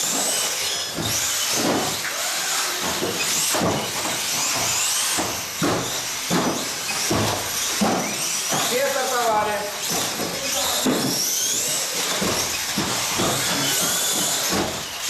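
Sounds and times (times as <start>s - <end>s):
electric motor whines: 0.0s - 15.0s.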